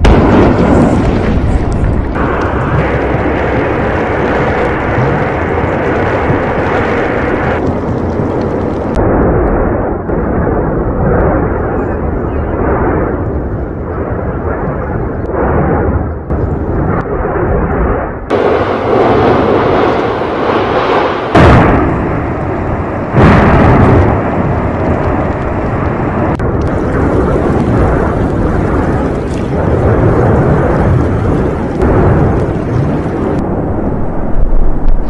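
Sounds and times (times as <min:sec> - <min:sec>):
volcano blasts: 0:00.0 - 0:35.0
volcano deep rumble: 0:00.0 - 0:35.0.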